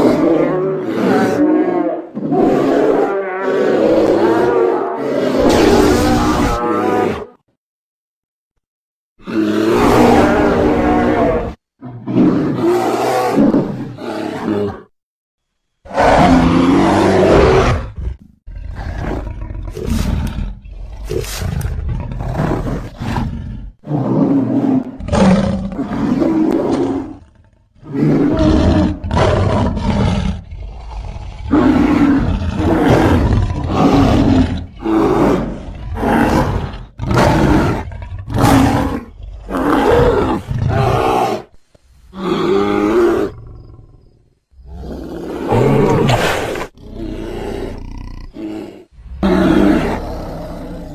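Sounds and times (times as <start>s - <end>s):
animal-like roars and growls: 0.0s - 7.4s, 9.2s - 14.9s, 15.8s - 50.9s.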